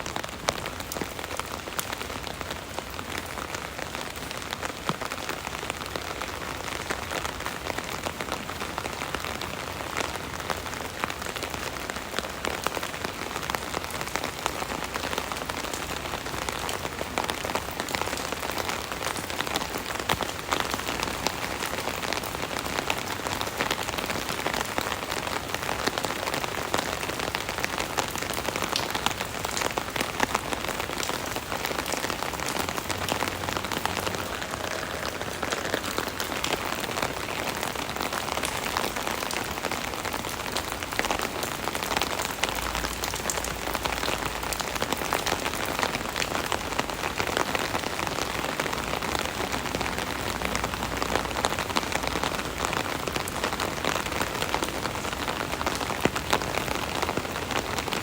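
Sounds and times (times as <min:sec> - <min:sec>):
rain drumming on umbrella: 0:00.0 - 0:58.0.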